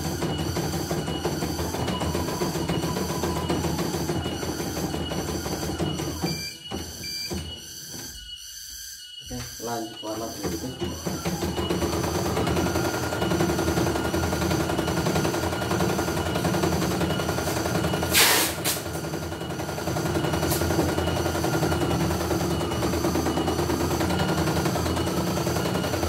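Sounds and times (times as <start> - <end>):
embroidery machine stitching: 0.0 - 7.4, 9.6 - 26.0.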